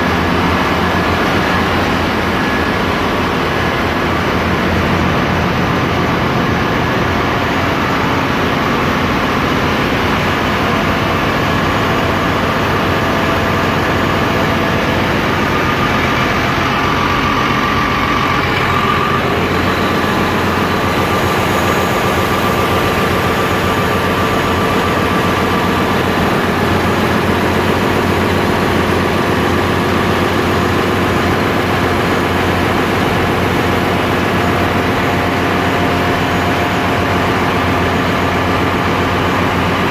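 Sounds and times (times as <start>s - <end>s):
diesel machinery running: 0.0s - 39.9s.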